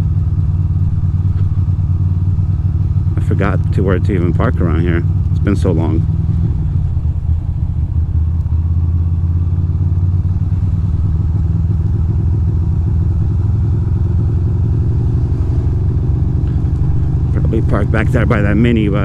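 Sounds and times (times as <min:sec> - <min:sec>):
motorcycle engine at low revs: 0:00.0 - 0:19.0.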